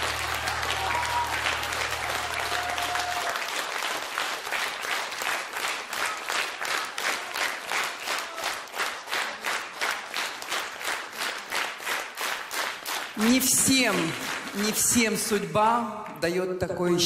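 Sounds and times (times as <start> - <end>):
audience rhythmic clapping: 0.0 - 16.2.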